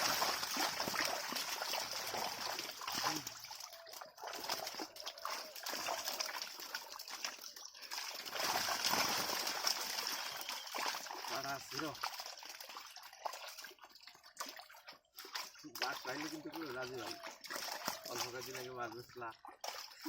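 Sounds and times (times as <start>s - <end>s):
shallow water splashing: 0.0s - 20.0s.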